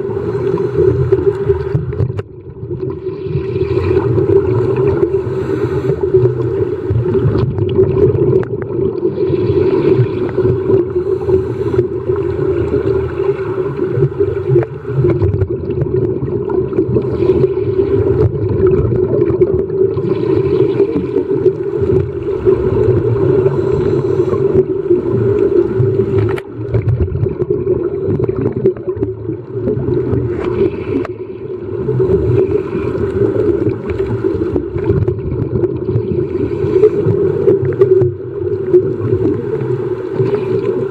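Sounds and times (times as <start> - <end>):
low underwater drone: 0.0 - 40.9
regulator bubbles gurgling: 0.0 - 40.9.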